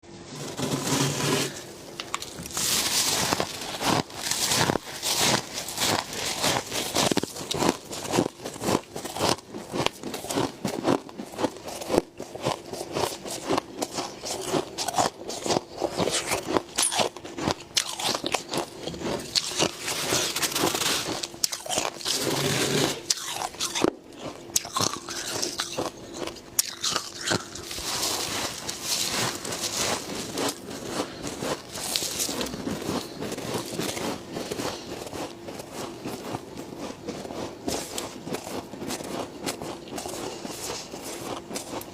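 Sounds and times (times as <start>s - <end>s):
crunching frost in mouth: 1.4s - 41.9s
chewing: 2.1s - 41.9s.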